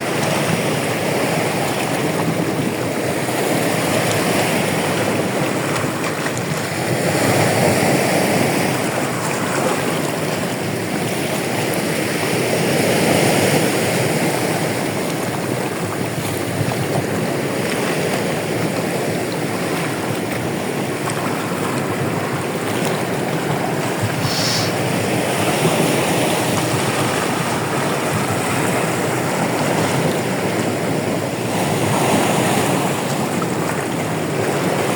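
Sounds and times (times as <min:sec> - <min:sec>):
sea waves washing ashore: 0:00.0 - 0:34.9.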